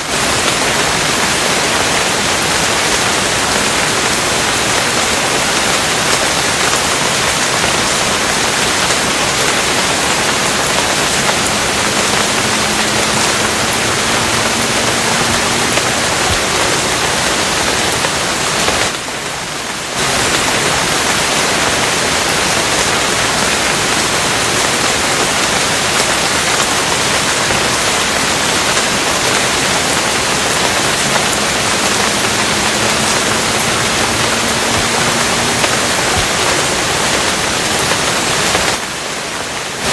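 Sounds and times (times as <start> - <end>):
steady dense rain: 0.0 - 39.9.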